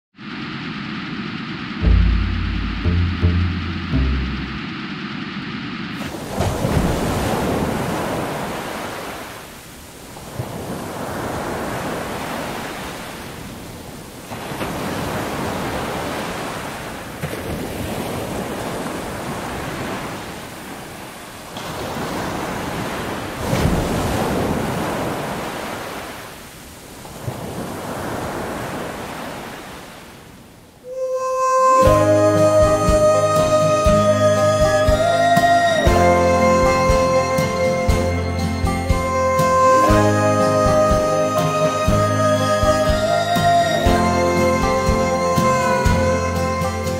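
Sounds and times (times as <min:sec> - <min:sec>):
sea waves breaking on shore: 0:00.2 - 0:02.8, 0:04.1 - 0:46.9.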